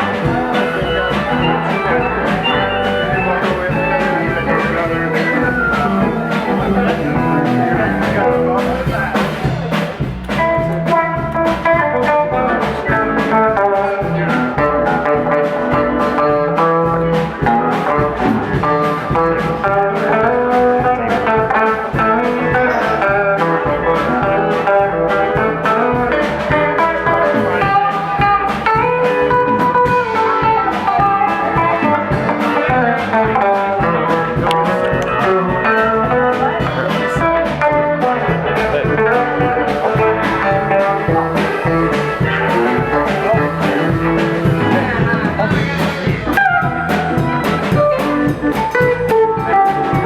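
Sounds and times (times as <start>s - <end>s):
bass: 0.0s - 50.0s
drum beat: 0.0s - 50.0s
guitar lead line: 0.0s - 50.0s.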